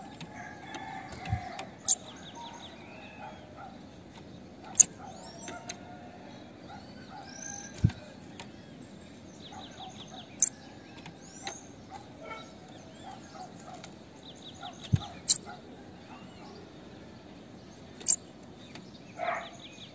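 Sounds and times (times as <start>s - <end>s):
bird chirping: 0.0s - 19.9s.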